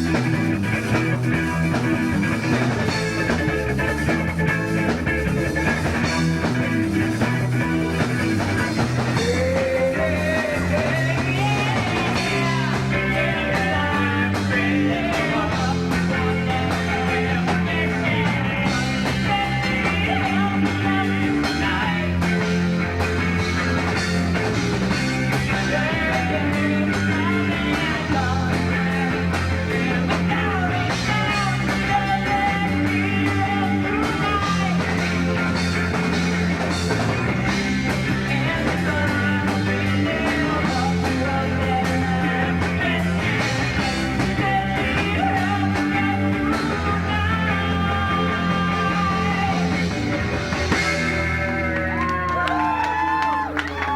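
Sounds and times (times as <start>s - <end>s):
bass line: 0.0s - 53.9s
drums: 0.0s - 53.9s
lead guitar with bending notes: 0.0s - 53.9s.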